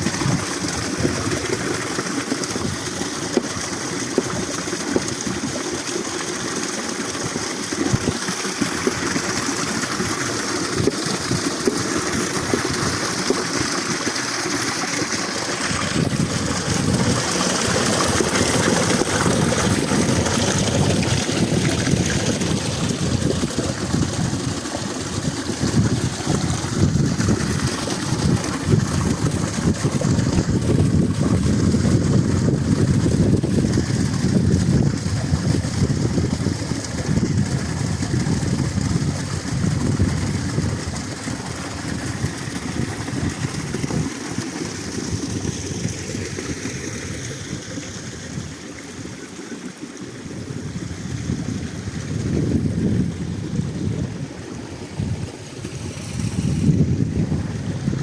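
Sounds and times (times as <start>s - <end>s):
flowing mountain water: 0.0s - 58.0s.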